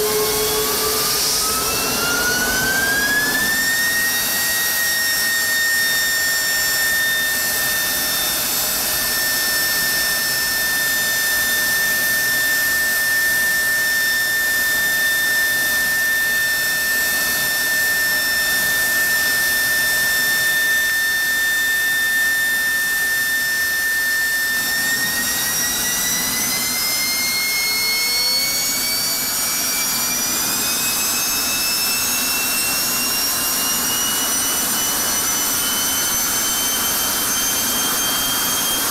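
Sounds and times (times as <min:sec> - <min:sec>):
jet engine roar with high whine: 0:00.0 - 0:38.9.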